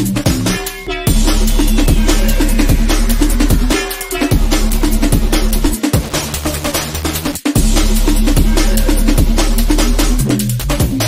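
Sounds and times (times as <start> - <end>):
fast drum beat: 0.0 - 11.0
deep sliding bass: 1.1 - 10.3.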